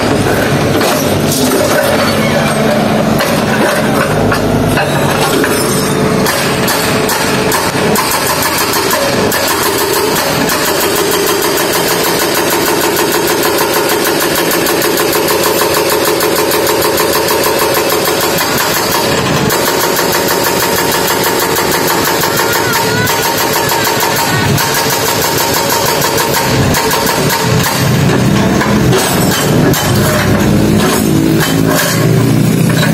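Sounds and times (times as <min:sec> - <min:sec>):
diesel engine running under load: 0:00.0 - 0:32.9.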